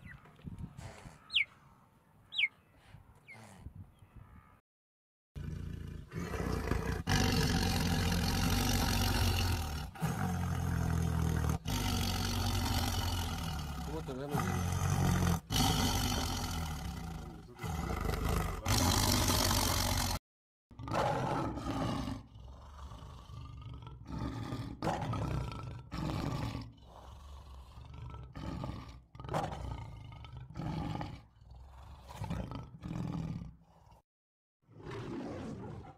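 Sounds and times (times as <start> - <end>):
lion roaring: 5.4 - 20.2, 20.8 - 34.0, 34.7 - 35.9
tiger roaring and growling: 5.4 - 34.0, 34.6 - 35.9.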